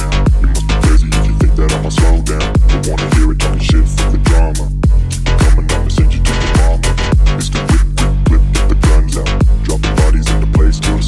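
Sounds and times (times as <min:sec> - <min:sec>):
electronic hip-hop instrumental: 0:00.0 - 0:11.0.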